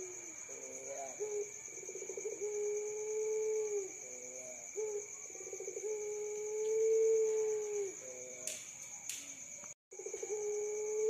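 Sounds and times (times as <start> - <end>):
dove cooing: 0.0 - 8.5, 10.0 - 11.0.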